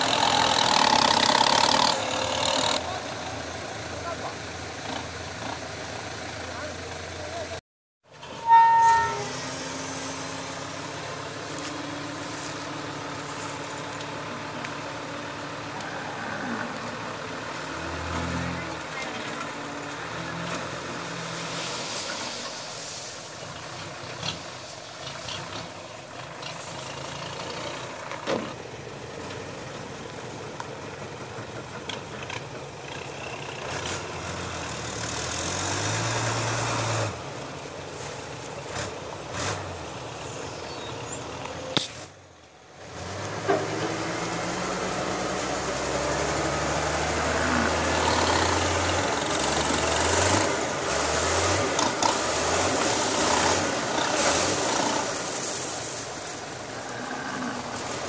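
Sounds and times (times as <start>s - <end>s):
dump truck engines revving: 0.0s - 58.0s.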